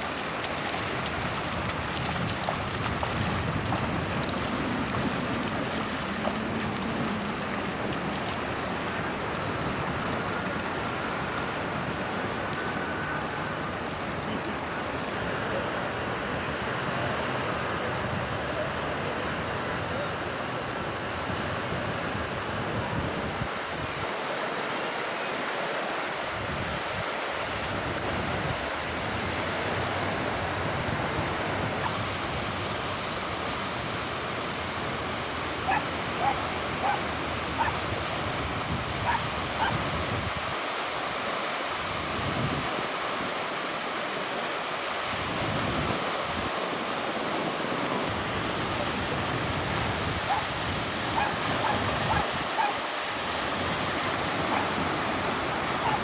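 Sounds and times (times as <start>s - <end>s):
wind on microphone: 0.0s - 20.0s, 20.7s - 25.1s, 26.1s - 56.0s
sea surf: 0.0s - 56.0s.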